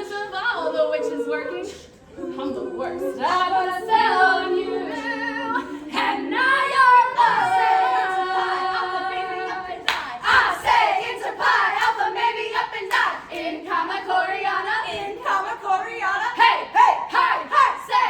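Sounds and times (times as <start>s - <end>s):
a cappella group singing: 0.0s - 18.0s.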